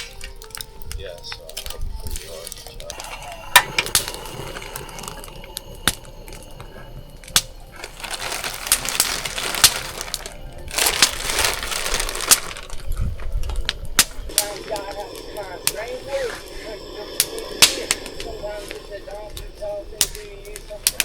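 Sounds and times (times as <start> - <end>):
fire popping: 0.0 - 21.0
wood fire crackling: 0.0 - 21.0.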